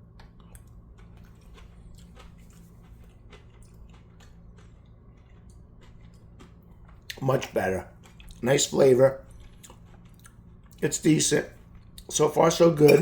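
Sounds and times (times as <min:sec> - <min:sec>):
person chewing food: 0:00.0 - 0:08.5, 0:09.2 - 0:10.8, 0:11.5 - 0:12.2
low steady hum: 0:00.0 - 0:13.0.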